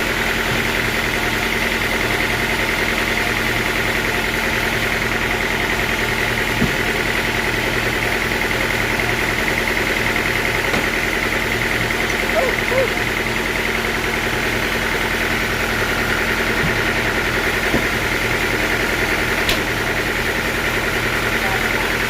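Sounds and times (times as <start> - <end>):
sawmill engine running: 0.0 - 22.0.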